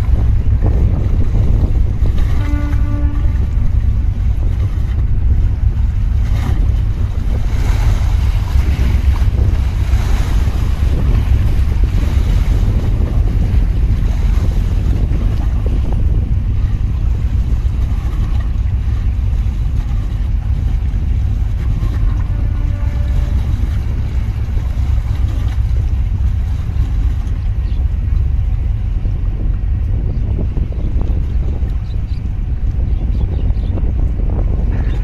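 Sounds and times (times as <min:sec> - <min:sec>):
choppy water washing: 0:00.0 - 0:35.0
wind buffeting microphone: 0:00.0 - 0:35.0.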